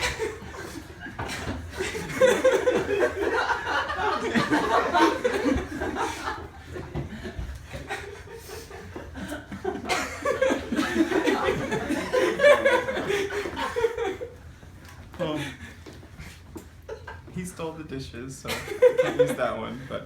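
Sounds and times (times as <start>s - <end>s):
people laughing: 0.0s - 14.5s, 15.1s - 17.4s, 18.4s - 20.0s.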